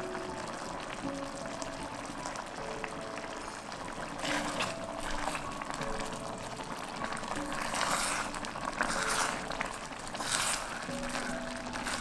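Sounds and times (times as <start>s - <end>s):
soft background music: 0.0s - 12.0s
wet crackly liquid simmering: 0.0s - 12.0s.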